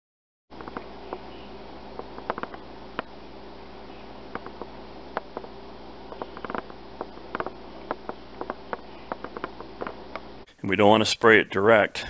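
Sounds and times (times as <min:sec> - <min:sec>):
electrical hum: 0:00.5 - 0:12.0
handling clicks and ticks: 0:00.6 - 0:10.4.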